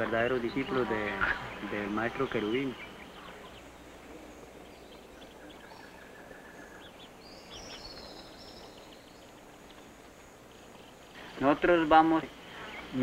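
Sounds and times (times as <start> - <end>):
birds calling: 0.0 - 13.0
rapid repeated bird notes: 0.0 - 13.0
steady hiss: 0.0 - 13.0
bird chirps: 0.1 - 11.5, 12.2 - 13.0.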